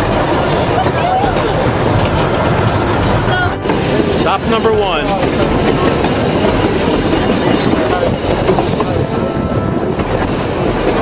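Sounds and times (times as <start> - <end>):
steam train wheels on track: 0.0 - 11.0.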